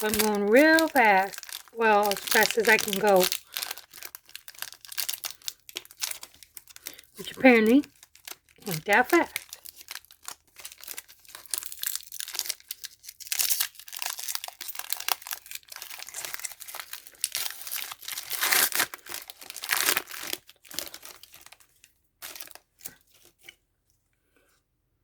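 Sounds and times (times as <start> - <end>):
foil wrappers crinkling and tearing: 0.0 - 23.4.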